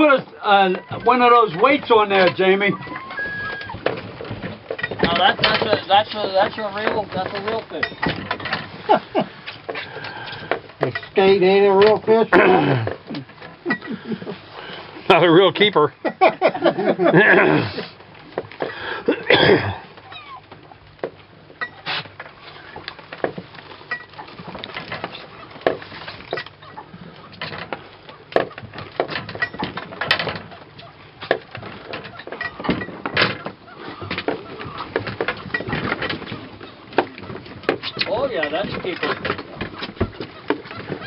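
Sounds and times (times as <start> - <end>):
fishing gear clicking and knocking: 0.8 - 14.4, 19.9 - 41.0.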